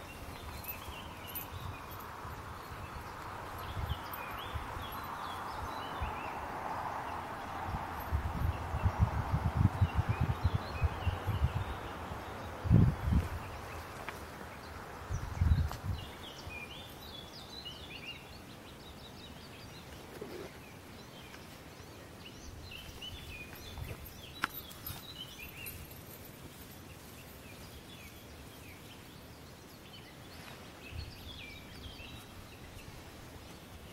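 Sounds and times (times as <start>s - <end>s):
songbird singing: 0.0s - 33.9s.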